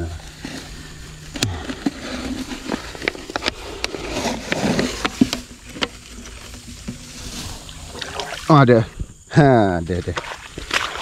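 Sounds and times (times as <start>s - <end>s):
wet grass rustling: 0.0s - 11.0s.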